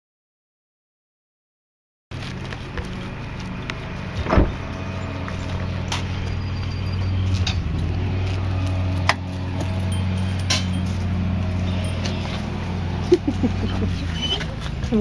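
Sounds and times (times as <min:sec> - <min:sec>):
low motor hum: 0:02.2 - 0:15.0.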